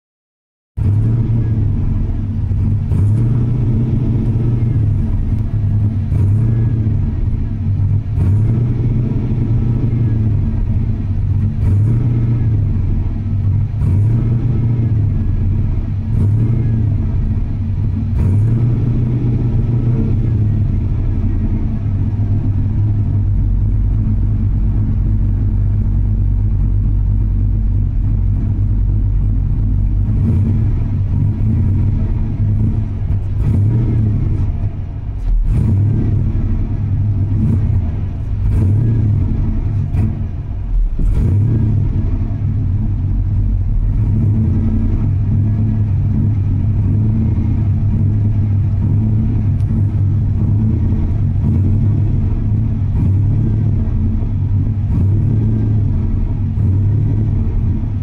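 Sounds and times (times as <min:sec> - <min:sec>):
vehicle engine rumbling: 0:00.8 - 0:58.0.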